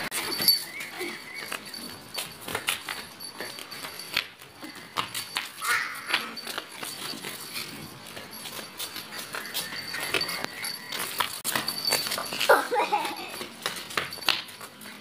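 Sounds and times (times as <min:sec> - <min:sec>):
sandals on concrete floor: 0:00.0 - 0:15.0.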